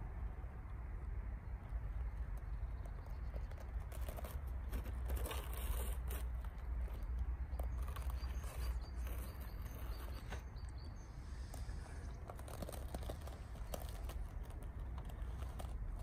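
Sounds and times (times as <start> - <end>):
steady low rumble: 0.0 - 16.0
tyres crunching through snow: 3.2 - 16.0.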